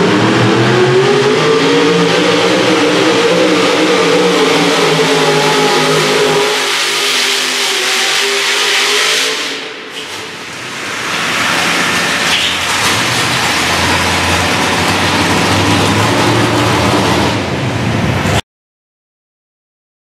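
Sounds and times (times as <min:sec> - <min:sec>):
truck engine at full throttle: 0:00.0 - 0:18.4.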